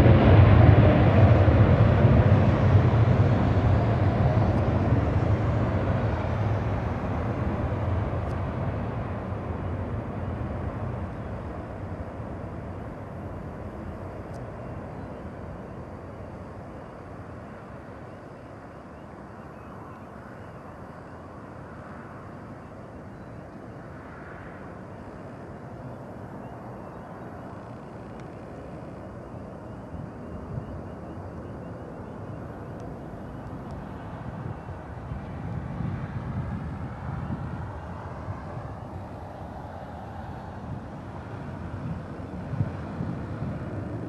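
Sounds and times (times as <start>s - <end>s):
low jet rumble: 0.0s - 44.0s.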